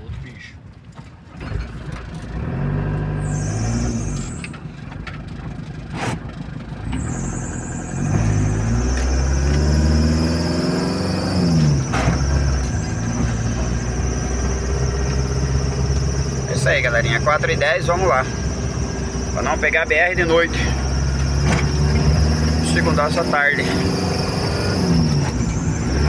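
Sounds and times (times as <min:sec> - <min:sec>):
diesel van engine pulling away: 0:01.3 - 0:26.0.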